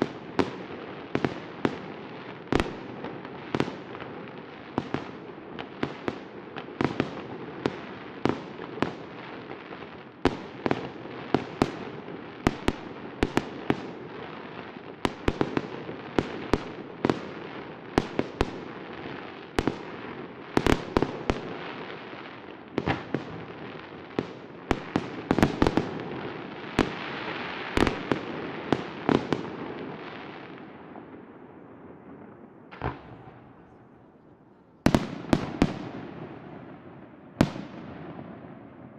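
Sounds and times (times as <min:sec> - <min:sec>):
fireworks sharp bangs: 0:00.0 - 0:31.3, 0:31.9 - 0:34.2, 0:34.8 - 0:38.9
fireworks crackle and rumble: 0:00.0 - 0:38.9.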